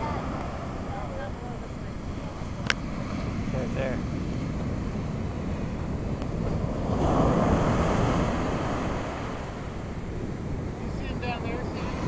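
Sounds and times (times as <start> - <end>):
ocean surf washing up beach: 0.0 - 12.0
wave breaking: 0.0 - 12.0
wind rumbling on microphone: 0.0 - 12.0.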